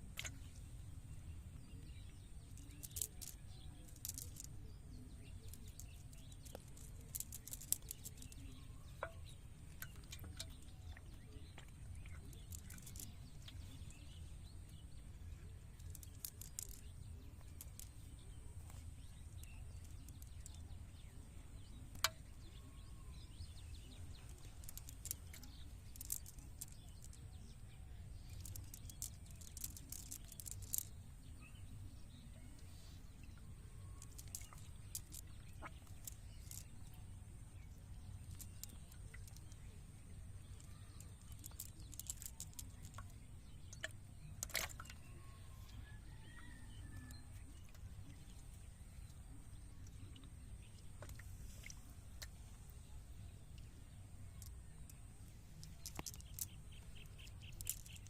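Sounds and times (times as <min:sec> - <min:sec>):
small clicks and ticks: 0:00.0 - 0:00.6, 0:01.6 - 0:58.0.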